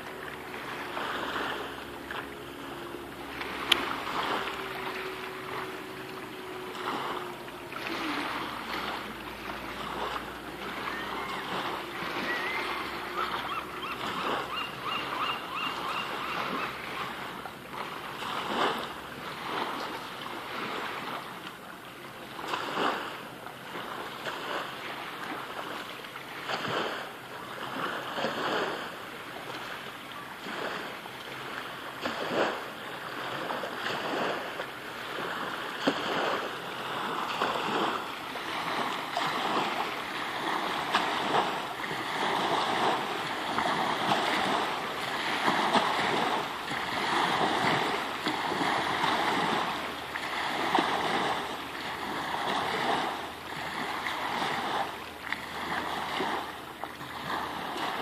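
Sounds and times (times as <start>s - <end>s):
waves lapping on concrete ramp: 0.0s - 58.0s.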